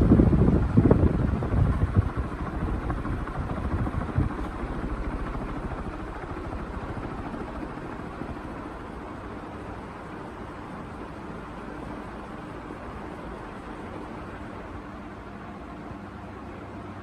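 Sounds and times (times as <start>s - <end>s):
air buffeting microphone: 0.0s - 14.9s
ceiling fan whooshing: 0.0s - 17.0s.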